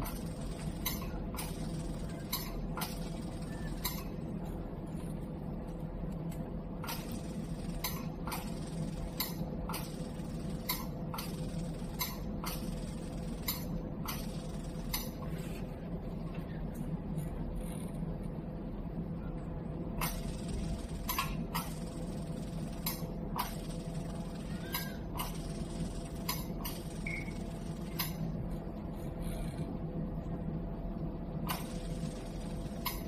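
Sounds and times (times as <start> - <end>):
machine humming with faint tone: 0.0 - 33.0.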